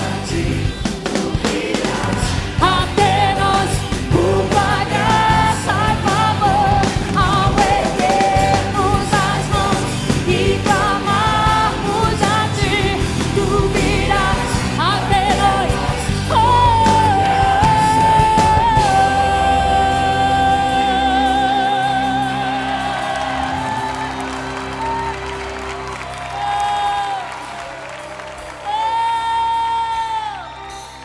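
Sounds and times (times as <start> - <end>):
drum and bass groove: 0.0 - 30.2.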